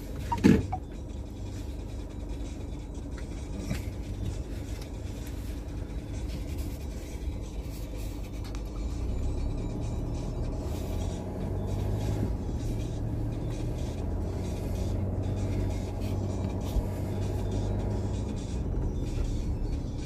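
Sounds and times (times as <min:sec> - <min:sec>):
car engine rumble: 0:00.0 - 0:20.0
tyres on road: 0:00.0 - 0:20.0.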